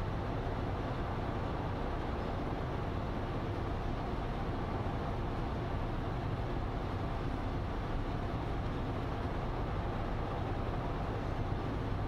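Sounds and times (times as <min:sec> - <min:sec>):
train rumbling inside railcar: 0:00.0 - 0:12.0.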